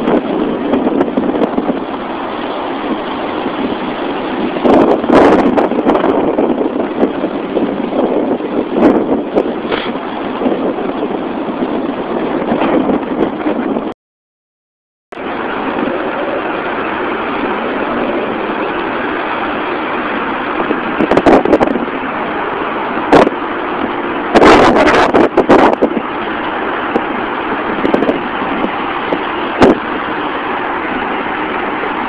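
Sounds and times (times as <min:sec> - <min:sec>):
wind buffeting microphone: 0:00.0 - 0:13.9, 0:15.2 - 0:32.0.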